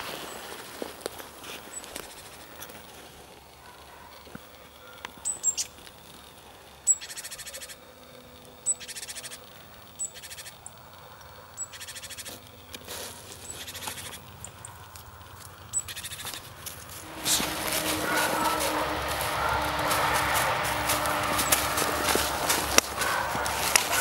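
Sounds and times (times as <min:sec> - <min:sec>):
songbird singing: 0:04.1 - 0:24.0.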